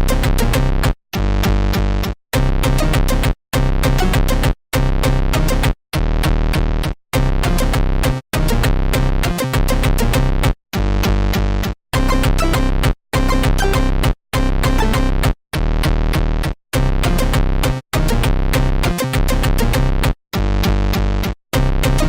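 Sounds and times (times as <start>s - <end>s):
electronic music with drum-machine beat: 0.0s - 22.0s.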